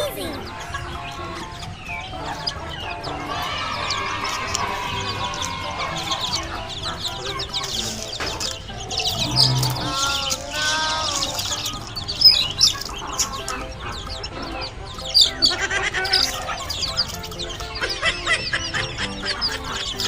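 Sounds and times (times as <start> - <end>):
background music: 0.0 - 20.0
chickens clucking: 0.0 - 20.0.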